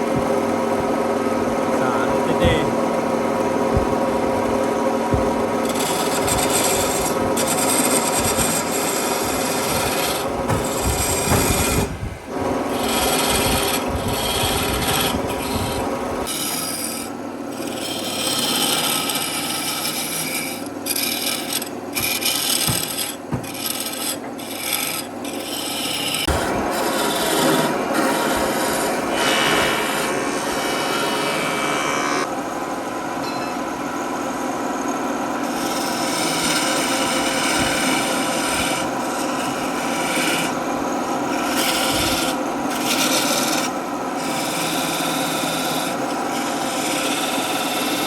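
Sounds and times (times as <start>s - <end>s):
power tool rasping against wood: 3.6s - 12.0s, 12.6s - 32.3s, 35.4s - 40.6s, 41.3s - 48.0s.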